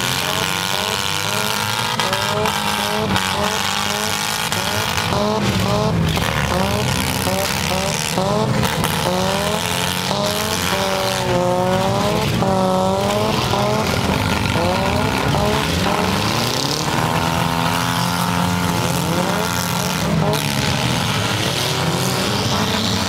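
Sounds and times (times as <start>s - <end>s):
car engines revving: 0.0s - 23.0s
cars grinding together: 0.0s - 23.0s.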